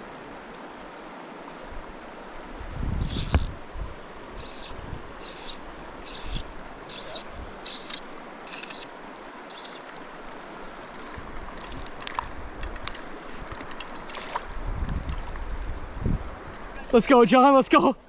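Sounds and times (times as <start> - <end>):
mountain stream rushing: 0.0 - 14.8.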